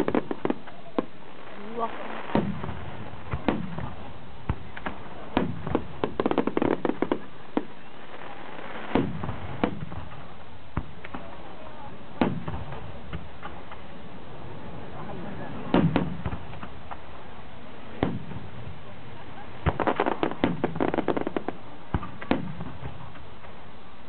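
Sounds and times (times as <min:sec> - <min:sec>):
fireworks booms: 0:00.0 - 0:23.6
fireworks bursting with bangs: 0:00.0 - 0:23.7
fireworks crackling: 0:00.0 - 0:24.0.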